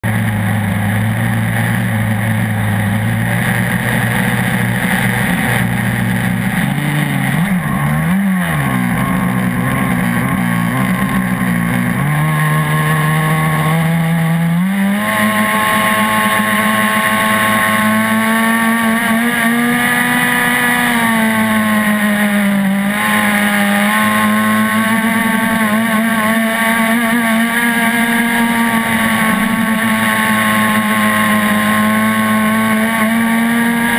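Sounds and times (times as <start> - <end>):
small two-stroke boat engine: 0.0 - 33.9.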